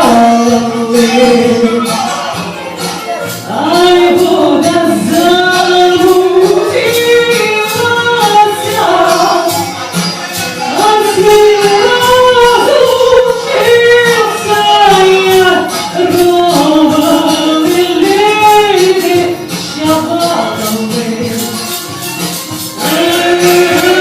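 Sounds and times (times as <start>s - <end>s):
instrumental accompaniment: 0.0s - 24.0s
person singing: 0.0s - 24.0s.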